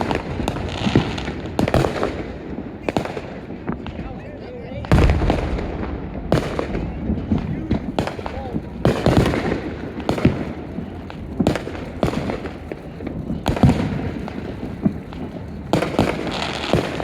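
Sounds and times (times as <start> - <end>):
continuous rumble: 0.0 - 17.0
fireworks bangs and booms: 0.0 - 17.0.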